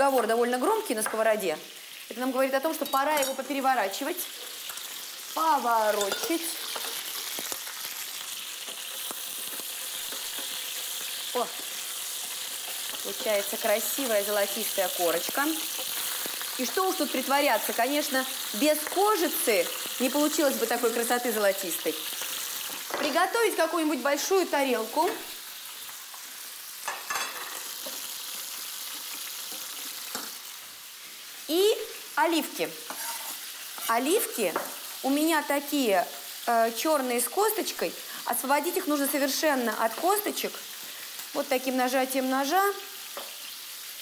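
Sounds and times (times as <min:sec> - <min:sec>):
chicken sizzling in a pan: 0:00.0 - 0:44.0.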